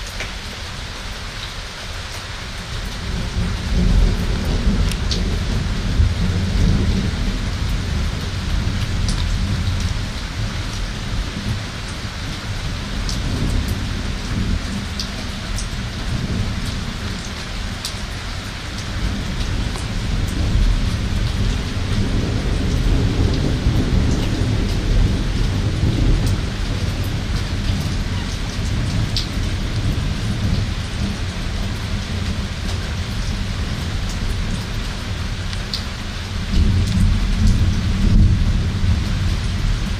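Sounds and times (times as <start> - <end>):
heavy rain pouring: 0.0 - 39.9
raindrops ticking close by: 0.0 - 39.9
deep rumble of thunder: 2.9 - 39.9.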